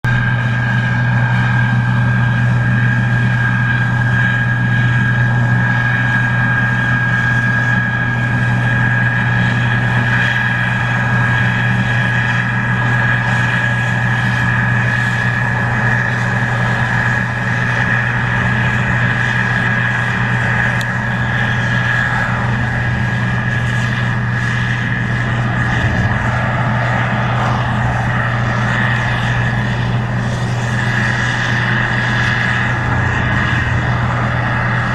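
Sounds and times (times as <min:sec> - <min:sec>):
combine engine drone: 0:00.0 - 0:34.9
high whine: 0:00.0 - 0:34.9.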